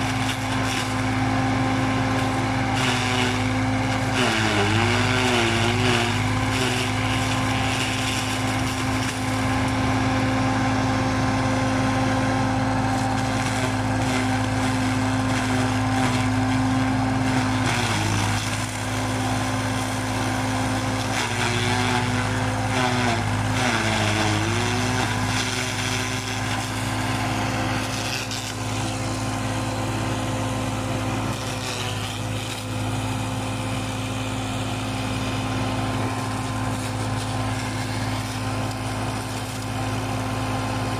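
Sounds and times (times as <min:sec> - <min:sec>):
corn stalks being chopped: 0:00.0 - 0:01.1, 0:01.9 - 0:09.8, 0:12.8 - 0:29.3, 0:31.0 - 0:34.0, 0:35.3 - 0:39.9
tractor engine running: 0:00.0 - 0:40.9.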